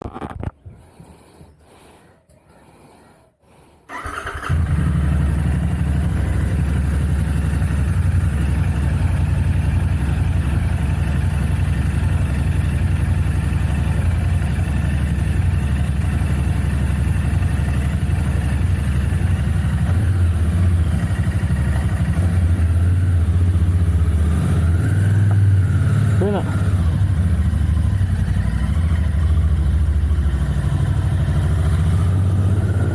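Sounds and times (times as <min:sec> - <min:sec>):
motorcycle engine idling: 0:03.9 - 0:32.9.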